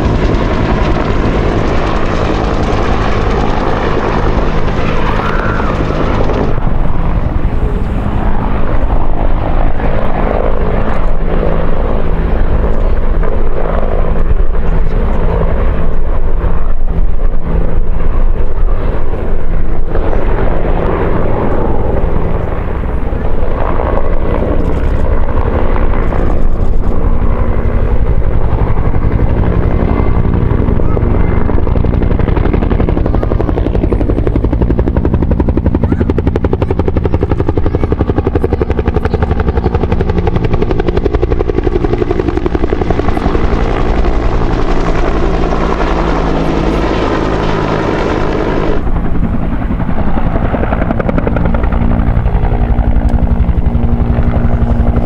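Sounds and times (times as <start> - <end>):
helicopter rotors beating: 0.0 - 55.0.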